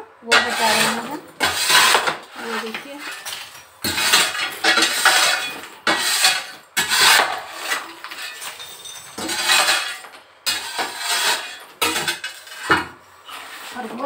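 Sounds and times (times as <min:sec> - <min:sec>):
hammer striking brick rubble: 0:00.3 - 0:13.0
clattering debris: 0:00.3 - 0:14.0.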